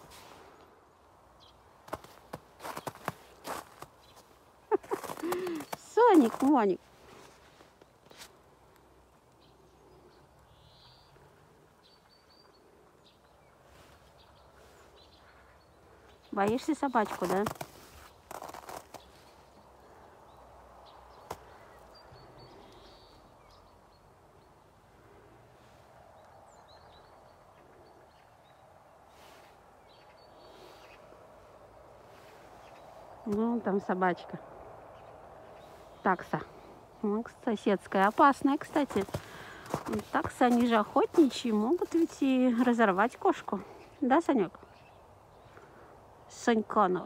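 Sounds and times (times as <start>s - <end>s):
small birds chirping: 0.5s - 47.0s.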